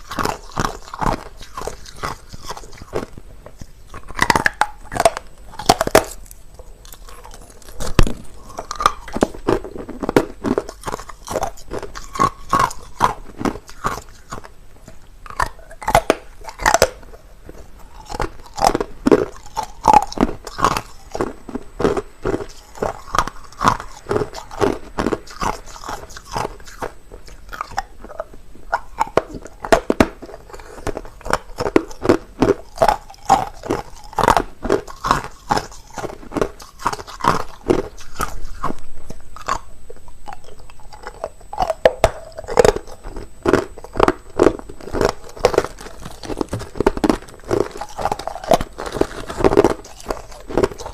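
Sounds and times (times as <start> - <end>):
ice being chewed: 0.0 - 50.9.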